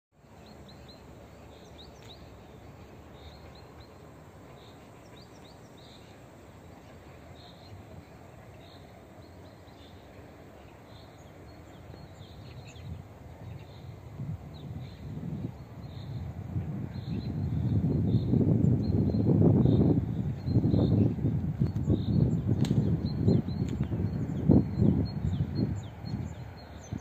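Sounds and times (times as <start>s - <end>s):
distant diesel locomotive rumble: 0.2s - 27.0s
small birds chirping: 0.2s - 27.0s.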